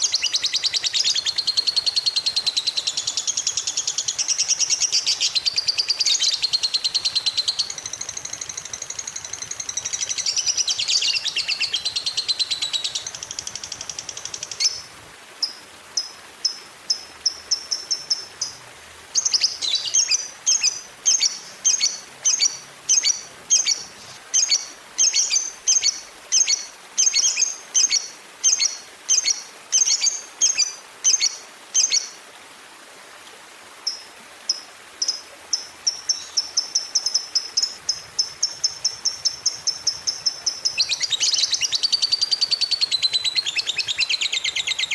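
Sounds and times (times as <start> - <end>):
lovebird high chatter and calls: 0.0 - 32.1, 35.0 - 44.9.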